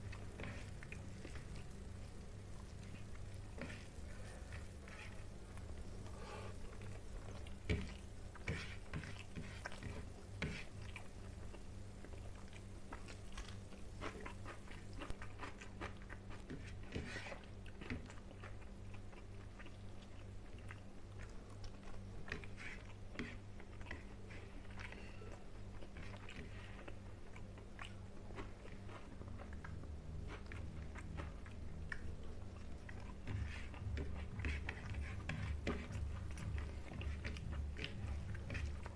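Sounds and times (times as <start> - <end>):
low steady hum: 0.0 - 38.9
person chewing wetly: 0.0 - 38.9.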